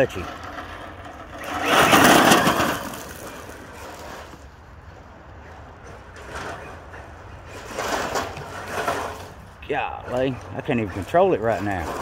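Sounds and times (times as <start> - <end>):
gravel crunching: 0.0 - 12.0
rc truck speeding past: 0.0 - 12.0.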